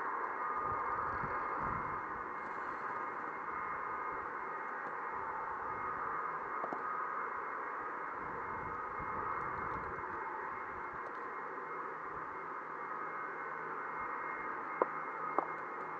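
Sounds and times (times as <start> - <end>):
jet engine whine: 0.0 - 15.9.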